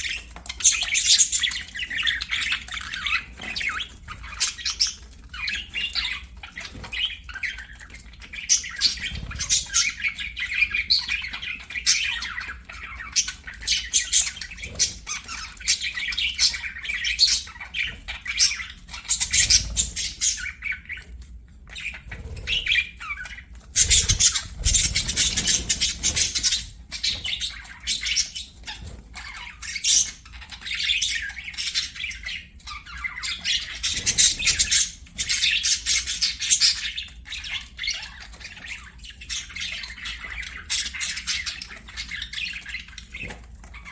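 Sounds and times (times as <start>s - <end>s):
bird squawks and chirps: 0.0s - 43.9s
budgerigars chattering: 0.0s - 43.9s.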